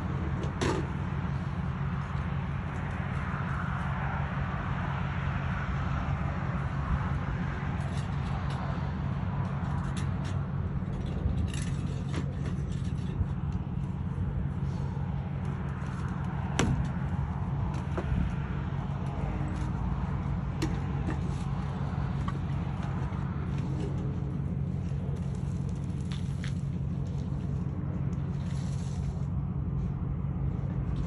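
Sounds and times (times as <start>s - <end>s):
engine rumble: 0.0s - 31.0s.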